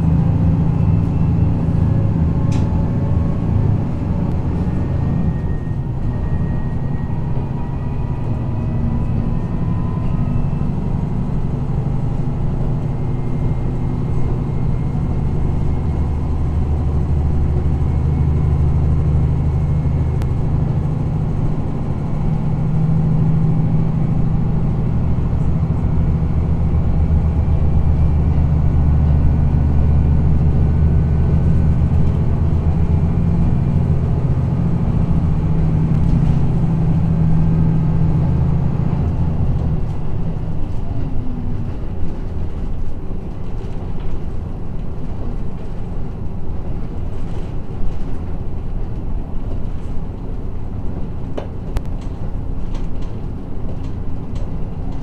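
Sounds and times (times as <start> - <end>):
diesel engine droning: 0.0 - 55.0
train running gear rumble: 0.0 - 55.0.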